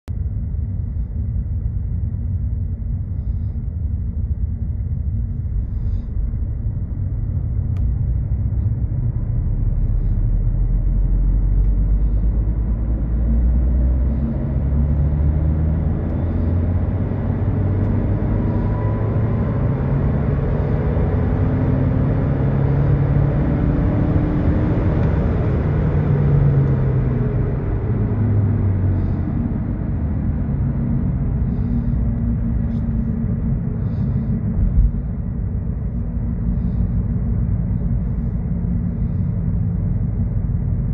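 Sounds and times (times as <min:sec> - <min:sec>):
car engine drone rising: 0:00.0 - 0:40.9
road and tyre noise: 0:04.5 - 0:40.9.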